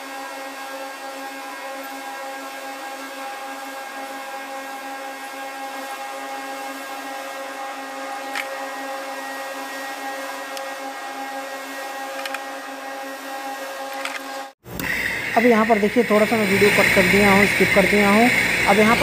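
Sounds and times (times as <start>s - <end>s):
electric motor hum: 0.0s - 19.0s.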